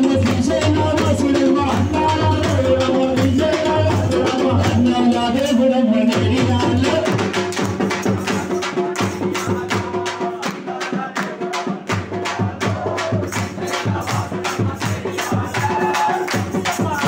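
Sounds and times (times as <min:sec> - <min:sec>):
crowd clapping along: 0:00.0 - 0:04.8, 0:07.1 - 0:17.0
devotional music with percussion: 0:00.0 - 0:17.0.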